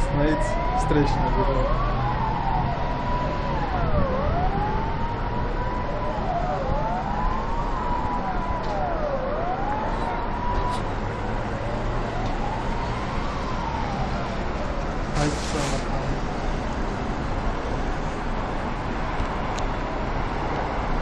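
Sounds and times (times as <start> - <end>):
emergency sirens wailing: 0.0 - 21.0.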